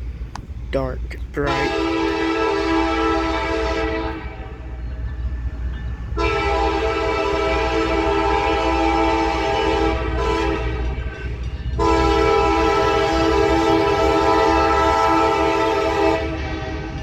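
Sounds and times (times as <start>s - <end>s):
passing train rumble: 0.0s - 17.0s
locomotive air horn: 1.4s - 4.8s, 6.1s - 17.0s.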